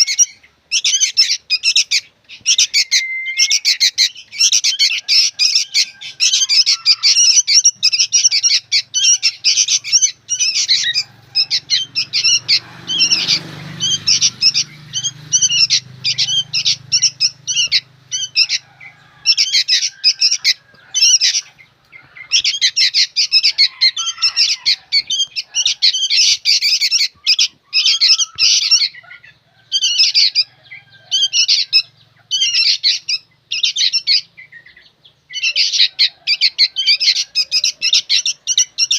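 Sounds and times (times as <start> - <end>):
bulbuls chirping: 0.0 - 38.9.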